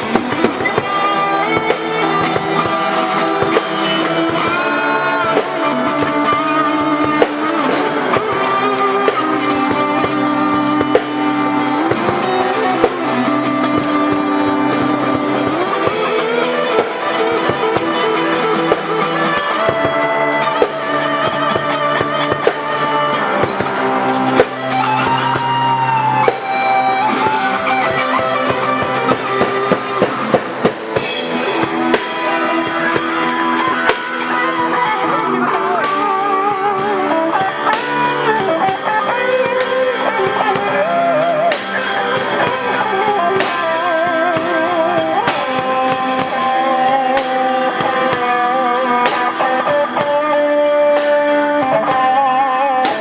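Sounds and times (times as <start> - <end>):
bending lead guitar line: 0.0 - 53.0
instrumental band music: 0.0 - 53.0.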